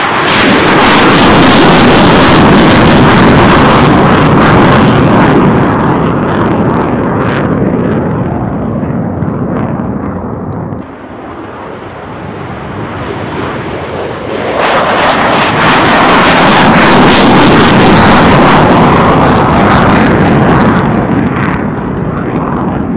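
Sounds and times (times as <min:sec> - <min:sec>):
jet engine roaring: 0:00.0 - 0:22.9.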